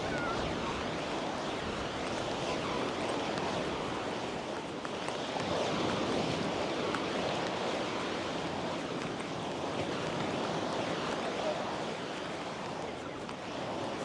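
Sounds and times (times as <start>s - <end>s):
small waves breaking on sand: 0.0s - 14.0s.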